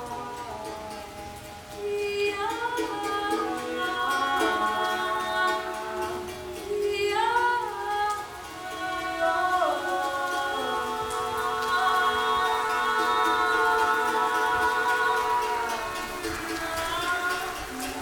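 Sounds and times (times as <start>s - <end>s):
group of voices holding notes: 0.0s - 18.0s.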